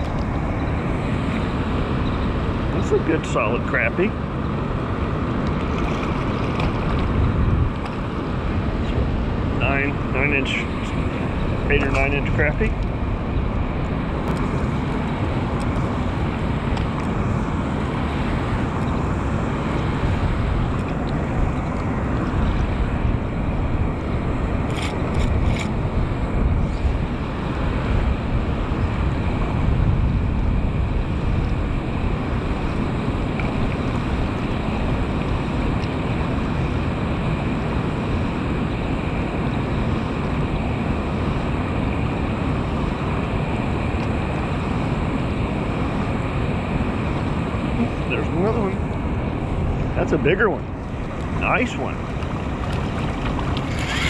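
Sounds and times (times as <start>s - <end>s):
water rushing from spillway: 0.0s - 54.0s
wind buffeting microphone: 0.0s - 54.0s.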